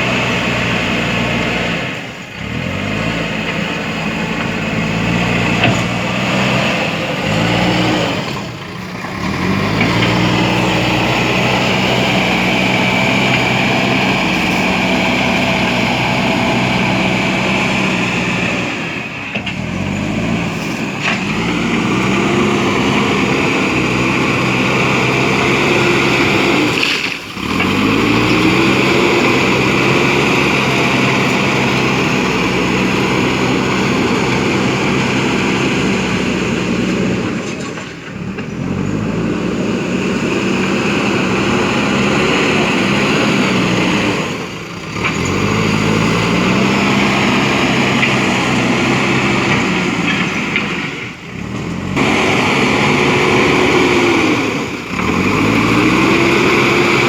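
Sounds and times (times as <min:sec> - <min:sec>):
diesel engine revving under load: 0:00.0 - 0:57.0.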